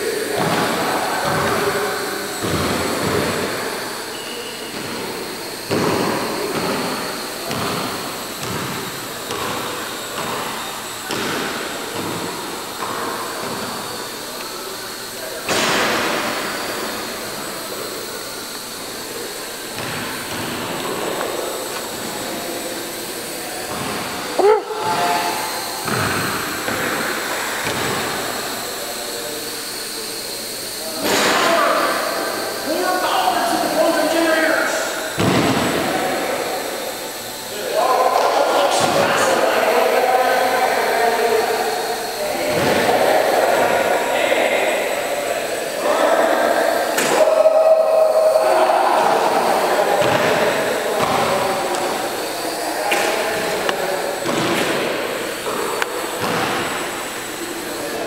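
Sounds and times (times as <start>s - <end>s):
quadcopter propellers whirring: 0.0s - 58.0s.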